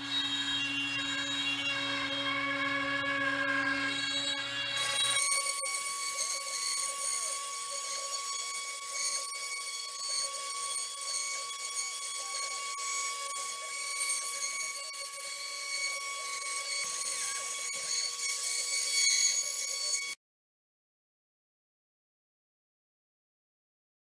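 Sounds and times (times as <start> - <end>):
router spindle whine: 0.0 - 20.2
bit cutting wood: 0.2 - 20.2.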